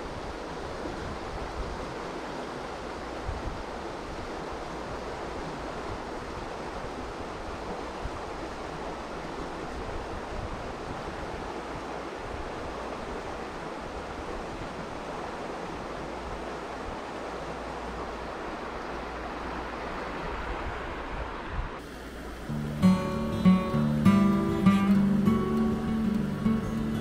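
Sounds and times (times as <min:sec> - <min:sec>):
wind rumble on microphone: 0:00.0 - 0:21.8
river running over stones: 0:00.0 - 0:27.0.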